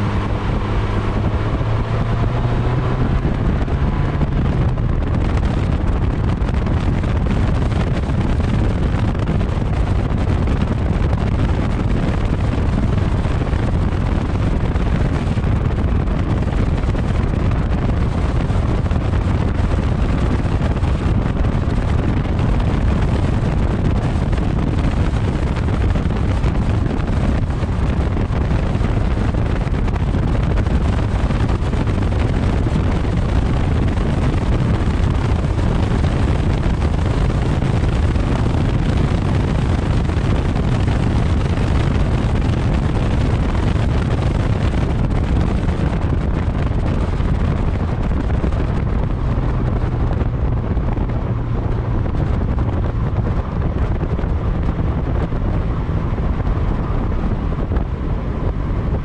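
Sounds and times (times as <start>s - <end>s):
car engine: 0.0s - 59.0s
tyre roar on asphalt: 0.0s - 59.0s
wind buffeting microphone: 0.0s - 59.0s.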